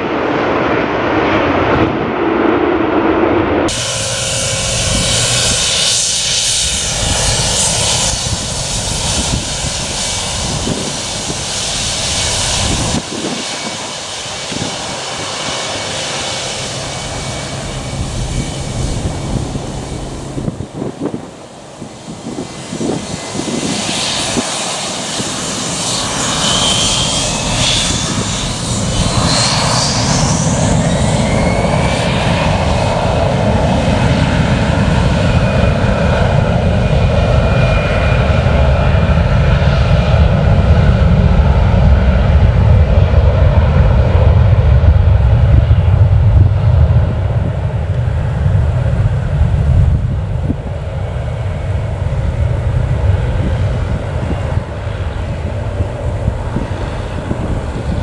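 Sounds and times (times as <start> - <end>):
jet engine whine: 0.0 - 58.0
low jet rumble: 0.0 - 58.0.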